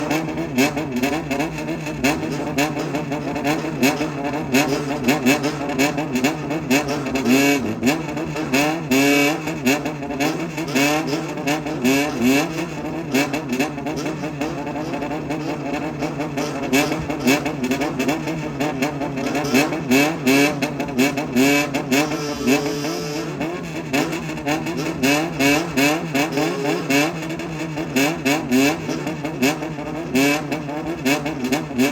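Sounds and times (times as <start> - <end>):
motorcycle engine throttle blips: 0.0 - 31.9.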